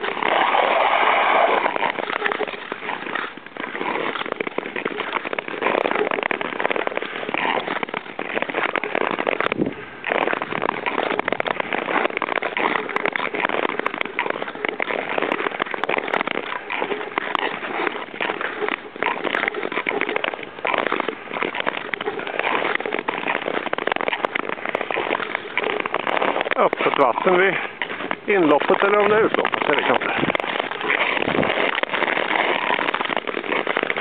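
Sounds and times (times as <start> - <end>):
skate blades scraping ice: 0.0 - 34.0.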